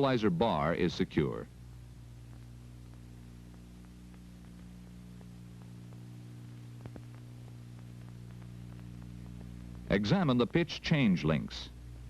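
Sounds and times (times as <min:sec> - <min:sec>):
faint clicks and crackle: 0:00.0 - 0:12.0
low electrical hum: 0:00.0 - 0:12.0.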